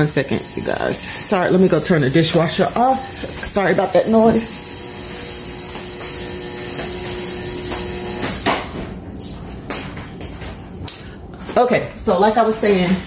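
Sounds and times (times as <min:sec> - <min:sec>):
dishwasher running: 0:00.0 - 0:10.6.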